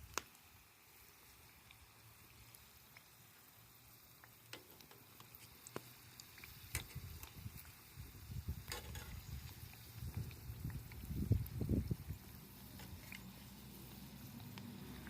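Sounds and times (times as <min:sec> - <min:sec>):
oil frying with pops: 0:00.0 - 0:15.0.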